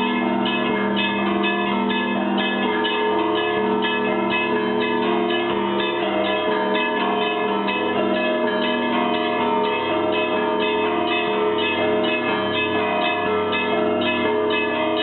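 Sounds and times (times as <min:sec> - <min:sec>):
church bells ringing a peal: 0:00.0 - 0:15.0.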